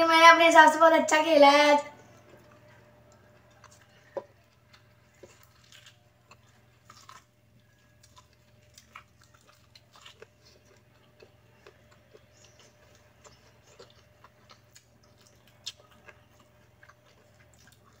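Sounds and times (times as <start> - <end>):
faint chewing clicks and crunches: 2.0 - 18.0.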